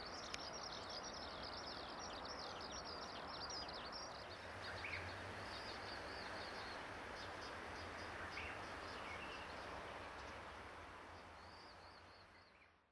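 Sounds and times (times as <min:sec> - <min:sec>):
outdoor background noise: 0:00.0 - 0:12.9
small birds chirping: 0:00.0 - 0:12.9.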